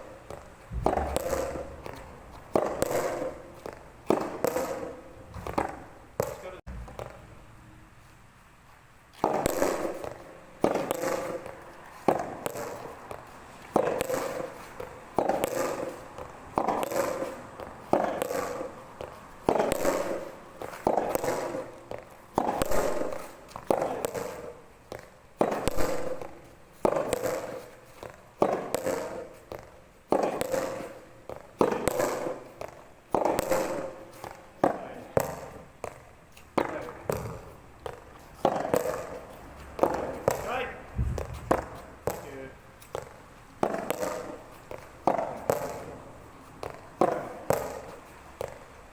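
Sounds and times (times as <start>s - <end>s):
rackets hitting rubber balls: 0.1s - 7.2s, 9.2s - 46.0s.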